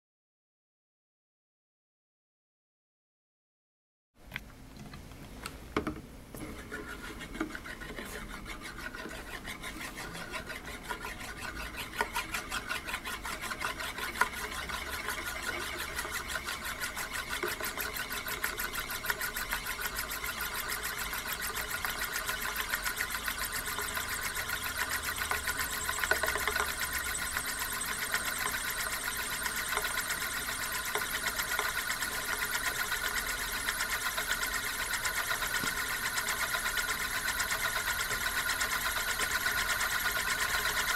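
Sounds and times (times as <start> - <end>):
metal disk whirring rattle: 6.4 - 40.9.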